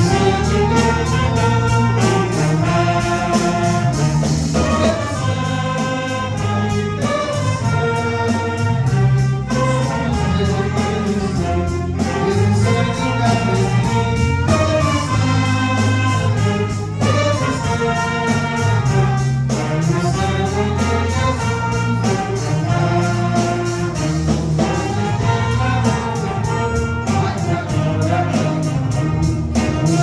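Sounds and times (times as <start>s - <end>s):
brass band music: 0.0s - 30.0s.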